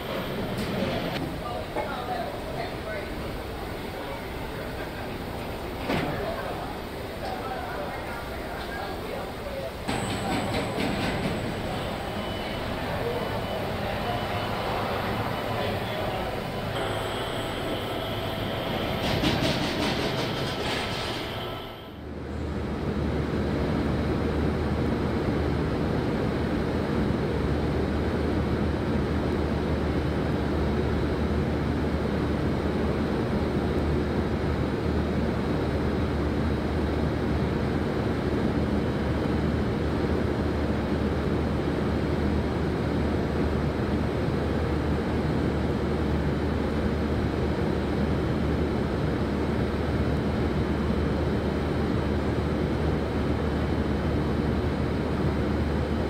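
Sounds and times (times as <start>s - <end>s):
machinery and ventilation noise: 0.0s - 56.0s.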